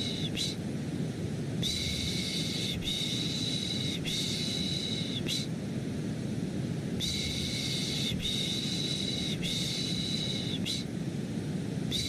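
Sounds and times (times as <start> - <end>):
deep white-noise hiss: 0.0 - 12.0.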